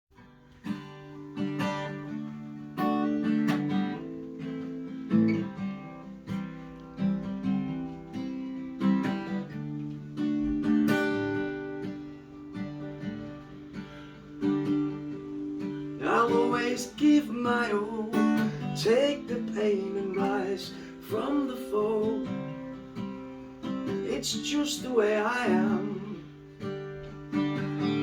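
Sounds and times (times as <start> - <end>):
acoustic guitar strumming: 0.1 - 28.0.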